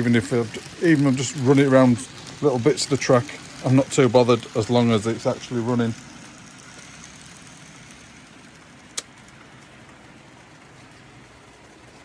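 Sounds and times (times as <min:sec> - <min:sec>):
model trains whirring on track: 0:00.0 - 0:12.0.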